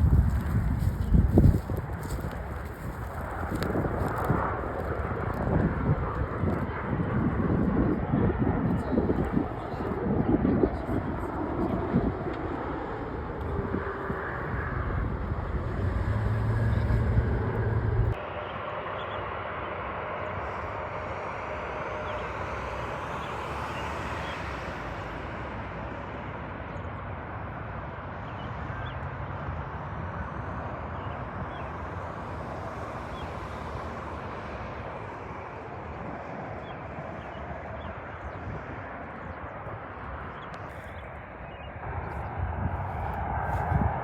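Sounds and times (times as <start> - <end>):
jet airliner engines roaring: 0.0 - 44.0.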